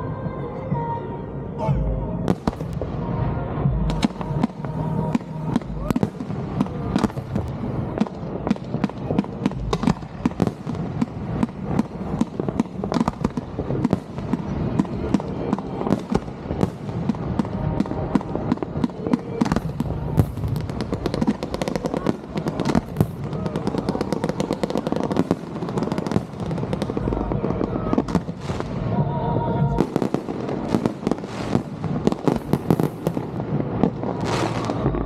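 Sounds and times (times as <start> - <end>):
fireworks bangs and crackles: 2.2 - 35.0.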